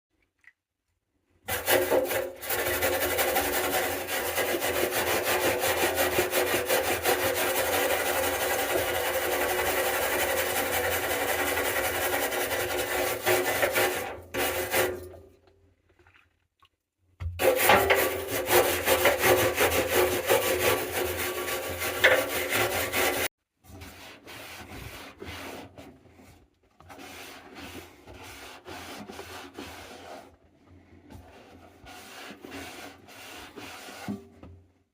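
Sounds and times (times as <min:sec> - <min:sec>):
hard scrubbing on washing machine: 0:01.5 - 0:15.2, 0:17.4 - 0:34.4.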